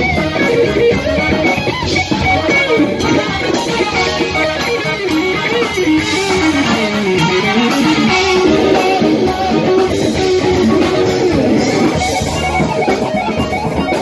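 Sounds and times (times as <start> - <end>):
electric guitar melody: 0.0 - 14.0
live band playing: 0.0 - 14.0.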